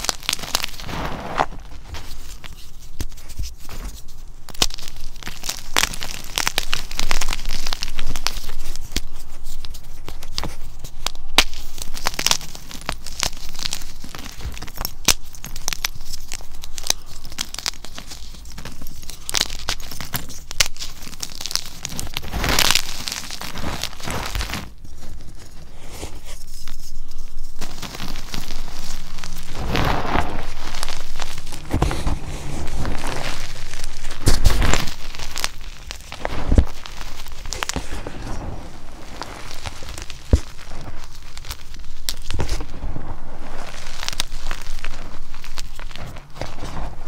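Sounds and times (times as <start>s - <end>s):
chalk crushed in hands: 0.0s - 47.0s.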